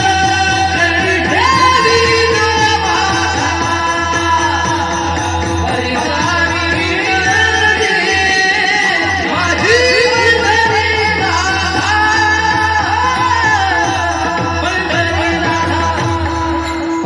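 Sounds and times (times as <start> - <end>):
instrumental accompaniment: 0.0 - 17.0
person singing: 0.0 - 17.0
steady drum rhythm: 0.0 - 17.0.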